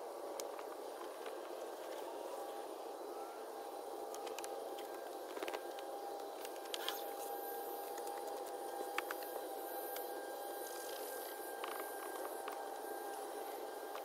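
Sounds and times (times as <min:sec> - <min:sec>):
machine hum with faint hiss: 0:00.0 - 0:14.0.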